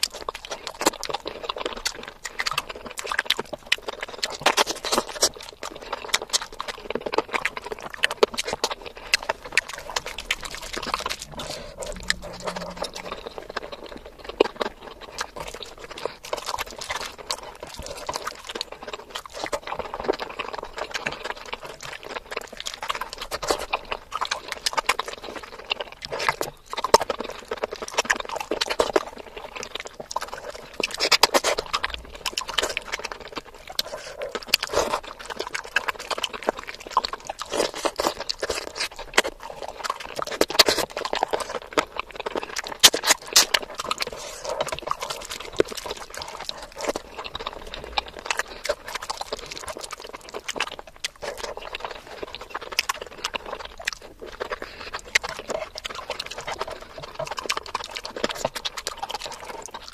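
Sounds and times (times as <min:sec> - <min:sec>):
chewing and wet mouth sounds: 0:00.0 - 0:59.9.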